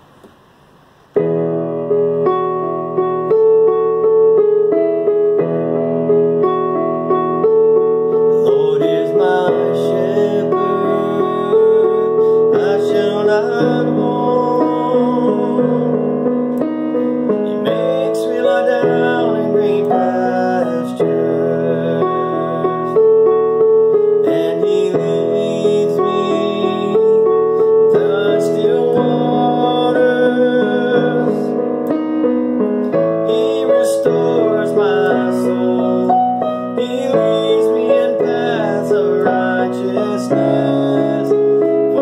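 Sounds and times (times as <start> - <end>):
piano music: 1.1 - 42.0.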